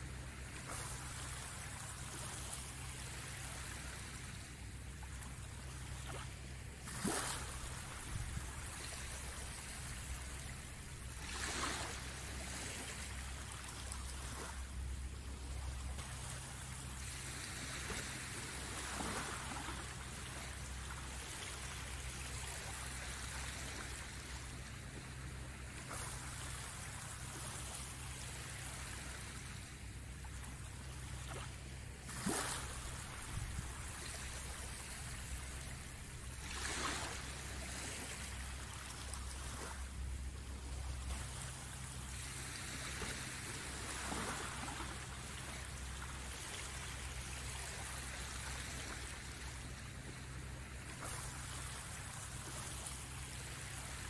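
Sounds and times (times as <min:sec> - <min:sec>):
water washing on beach: 0:00.0 - 0:54.0
waves breaking on shore: 0:00.0 - 0:54.0.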